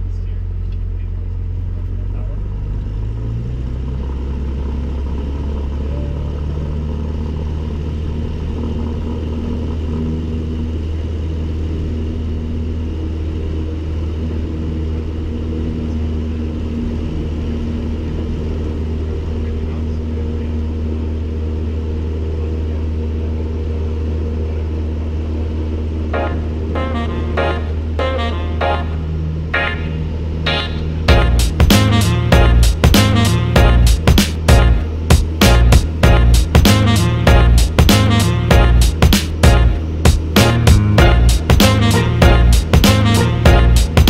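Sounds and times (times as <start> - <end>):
small plane engine and propeller: 0.0 - 44.0.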